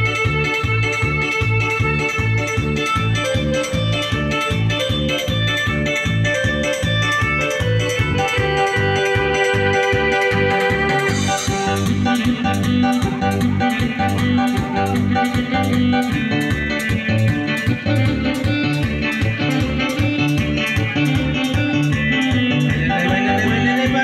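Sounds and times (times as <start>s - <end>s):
dance music with steady beat: 0.0s - 24.0s.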